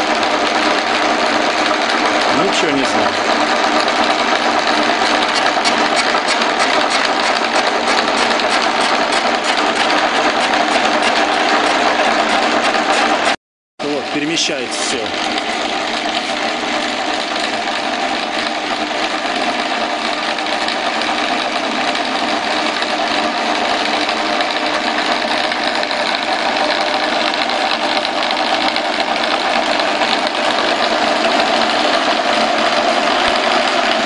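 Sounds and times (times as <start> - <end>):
lathe gear train whirring: 0.0 - 34.0.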